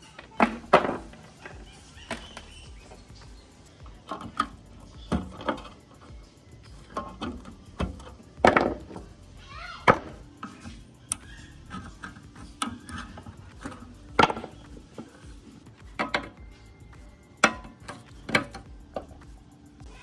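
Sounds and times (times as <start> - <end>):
tools clinking and scraping on metal: 0.0 - 19.9.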